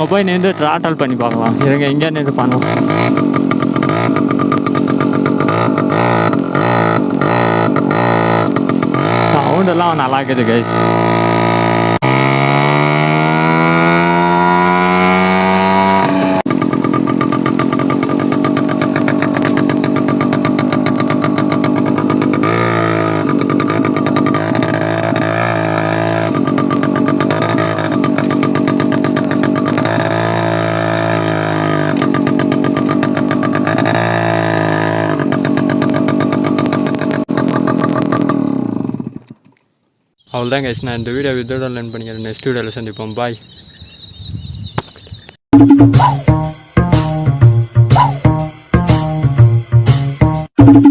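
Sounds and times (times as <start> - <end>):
moped engine revving: 0.0 - 39.6, 40.2 - 44.8, 45.5 - 50.9.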